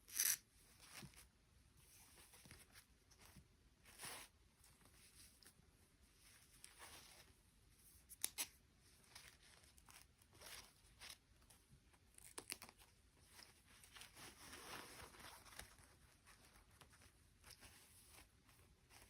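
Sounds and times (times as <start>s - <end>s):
soft rustling and crinkling: 0.2s - 19.0s.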